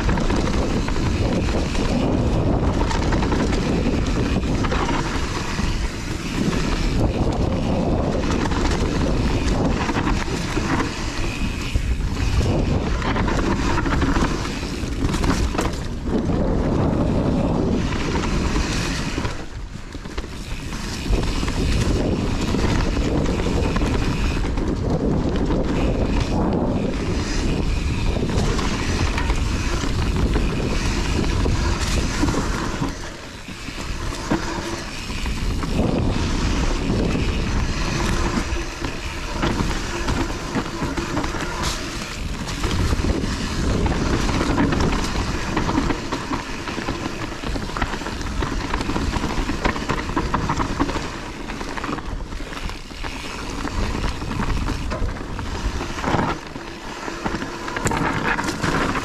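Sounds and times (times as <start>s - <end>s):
bike rattling over bumps: 0.0s - 59.0s
bike tyres rumbling over dirt: 0.0s - 59.0s
wind buffeting microphone: 0.0s - 59.0s.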